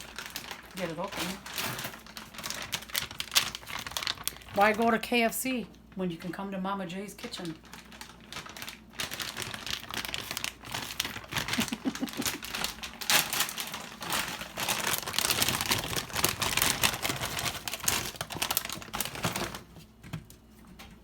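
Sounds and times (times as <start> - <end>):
plastic bag crinkling: 0.0 - 6.4, 7.0 - 20.5.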